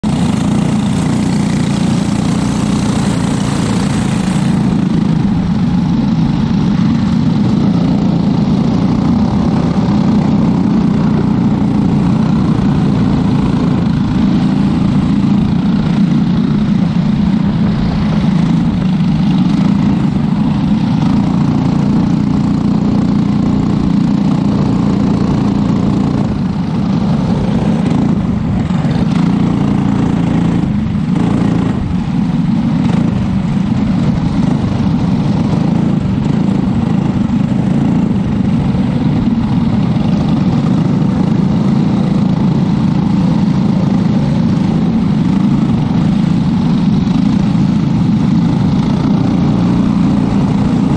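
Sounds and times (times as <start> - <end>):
kart engine running: 0.0 - 50.9
other karts: 0.0 - 50.9.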